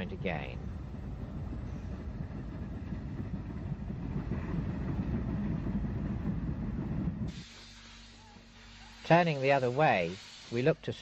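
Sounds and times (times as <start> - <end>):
steam train rumbling: 0.0 - 11.0.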